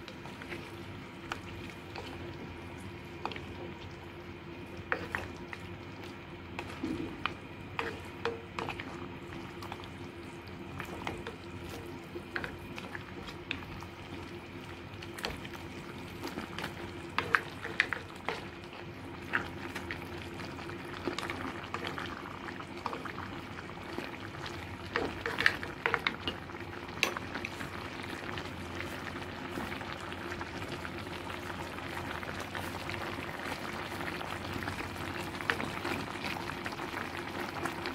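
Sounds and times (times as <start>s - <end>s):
faint steady hum: 0.0s - 37.9s
stew bubbling and sizzling: 0.0s - 37.9s.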